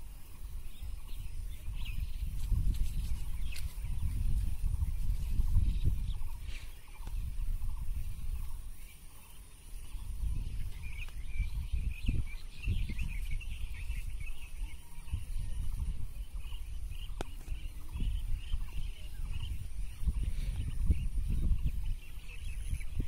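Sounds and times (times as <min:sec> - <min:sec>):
wind gusting against microphone: 0:00.0 - 0:23.0.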